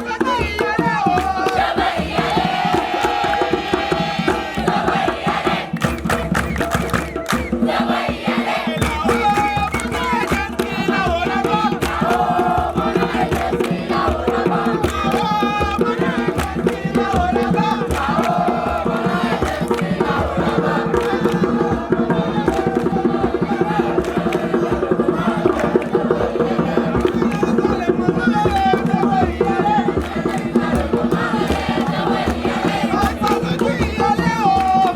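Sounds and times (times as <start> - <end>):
fast percussion: 0.0 - 34.9
voices singing and chanting: 0.0 - 34.9.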